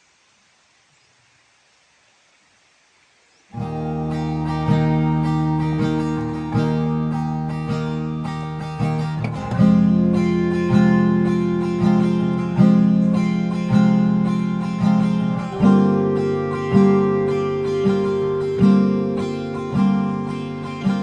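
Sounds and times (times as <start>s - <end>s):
acoustic guitar strumming chords: 3.6s - 21.0s.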